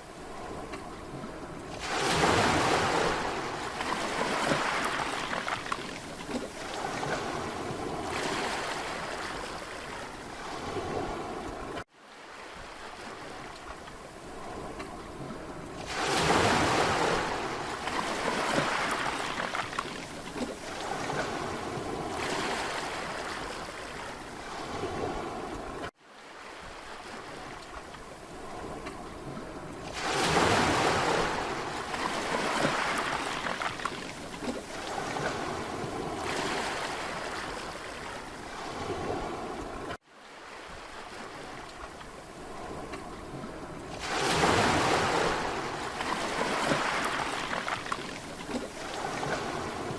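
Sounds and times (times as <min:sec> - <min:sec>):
sea waves breaking on beach: 0:00.0 - 0:49.9.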